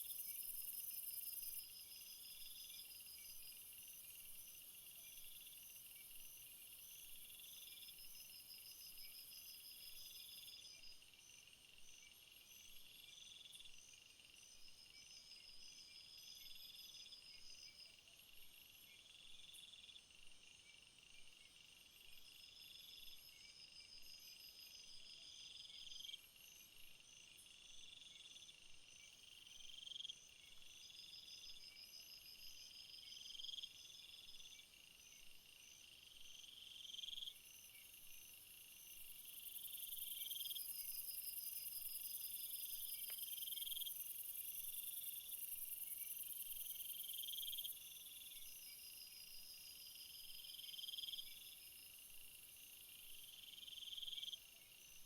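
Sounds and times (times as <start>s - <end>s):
crickets and insects chirping: 0.0s - 55.0s.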